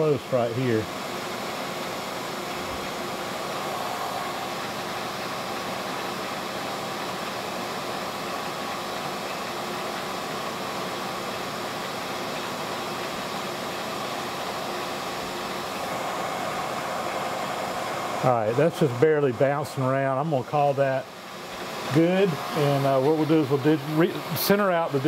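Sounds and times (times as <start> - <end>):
fan-like machine running: 0.0 - 25.0.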